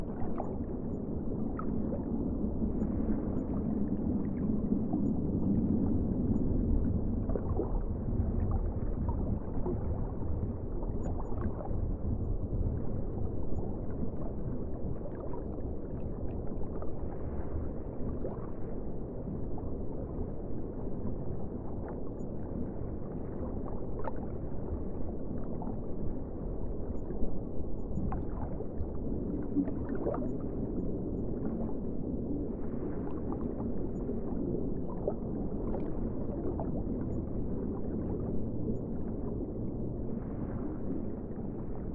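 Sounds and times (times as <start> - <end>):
underwater water rumble: 0.0 - 41.9.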